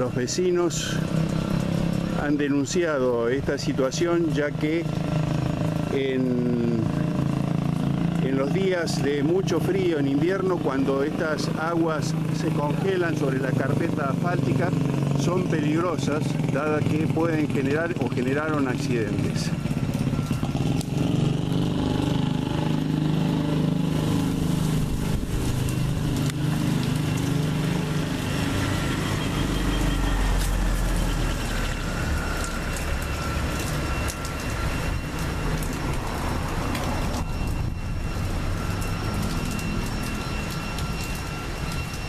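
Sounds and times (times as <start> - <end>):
street noise: 0.0 - 42.0
vehicle engine running close: 0.0 - 42.0
vehicle passing rumble: 0.8 - 42.0.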